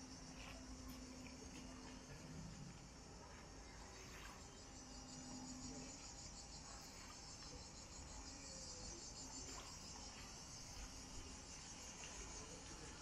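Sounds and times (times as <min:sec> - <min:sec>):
cicadas chorus: 0:00.0 - 0:13.0.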